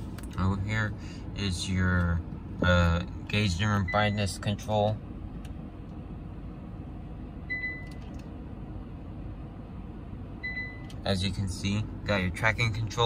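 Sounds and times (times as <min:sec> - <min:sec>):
low cabin hum: 0:00.0 - 0:13.0.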